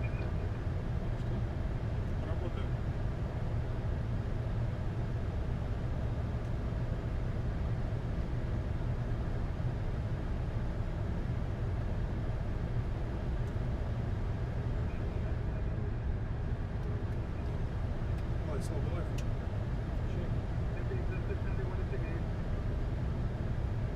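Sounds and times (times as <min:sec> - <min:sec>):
cockpit background rumble: 0:00.0 - 0:23.9.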